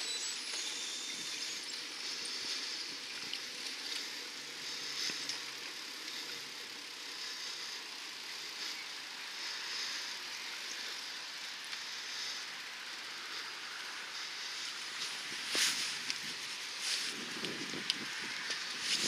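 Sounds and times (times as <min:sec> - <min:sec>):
road noise: 0:00.0 - 0:19.0
wind: 0:00.0 - 0:19.0.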